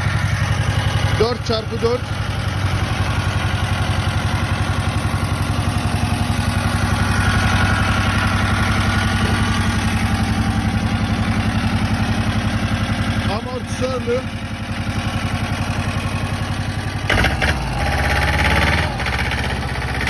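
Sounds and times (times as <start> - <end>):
diesel engine chugging: 0.0 - 20.0.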